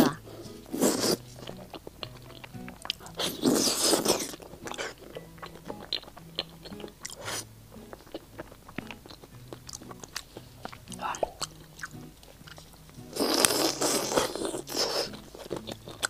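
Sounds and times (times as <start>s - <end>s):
biting food: 0.0s - 16.0s
wet chewing: 0.0s - 16.0s.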